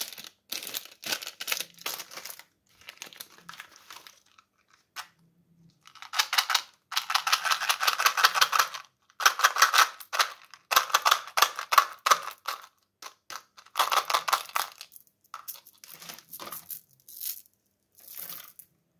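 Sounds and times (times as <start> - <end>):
mints rattling in plastic box: 0.0 - 4.5, 5.8 - 18.6.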